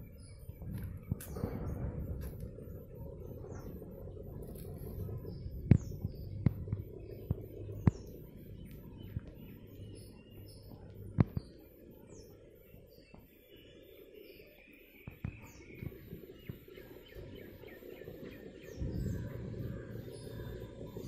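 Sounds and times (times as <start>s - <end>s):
low rumble: 0.0s - 12.8s, 15.2s - 21.0s
wild birds chirping: 0.0s - 21.0s.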